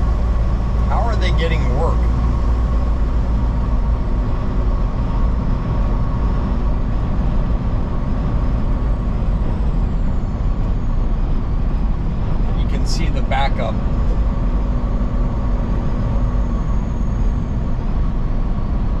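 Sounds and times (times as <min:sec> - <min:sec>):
truck driving at highway speed: 0:00.0 - 0:19.0.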